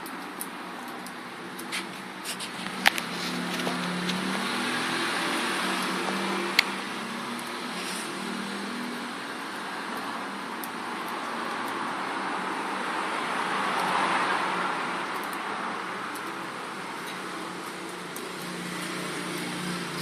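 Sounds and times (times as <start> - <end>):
vehicle passing: 2.0 - 20.0.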